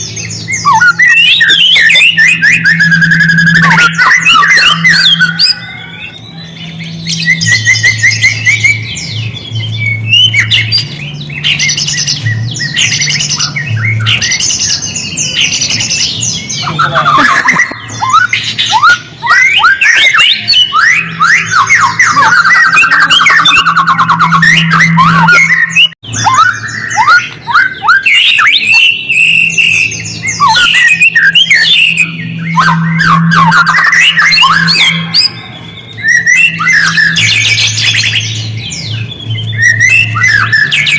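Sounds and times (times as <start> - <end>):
bird whistles and trills: 0.0 - 40.9
harsh squawking bird notes: 0.0 - 40.9.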